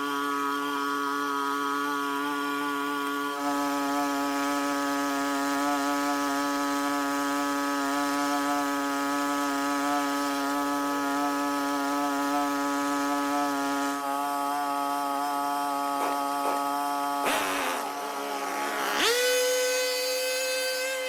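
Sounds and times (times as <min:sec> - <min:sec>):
small motor humming: 0:00.0 - 0:21.0.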